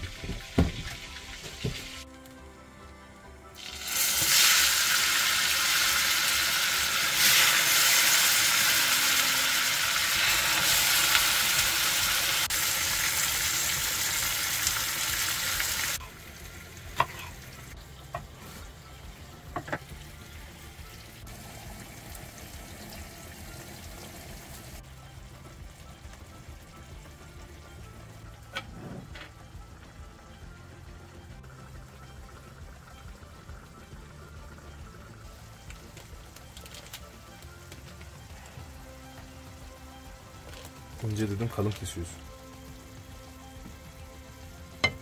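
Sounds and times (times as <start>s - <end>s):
tomatoes sizzling in a frying pan: 0.0s - 2.0s, 3.6s - 28.5s, 30.6s - 45.0s.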